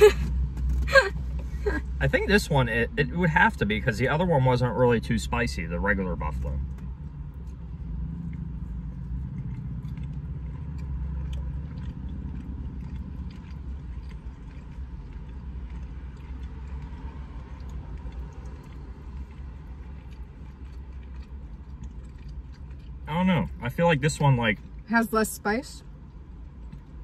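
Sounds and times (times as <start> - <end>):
car cabin rumble: 0.0 - 27.0
chewing and biting food: 3.2 - 24.9, 25.8 - 27.0.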